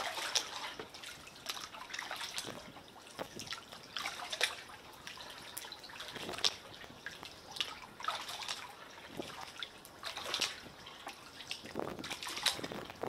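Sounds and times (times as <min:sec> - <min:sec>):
paddle dipping into water: 0:00.0 - 0:13.0
water splashes and drips: 0:00.0 - 0:13.0.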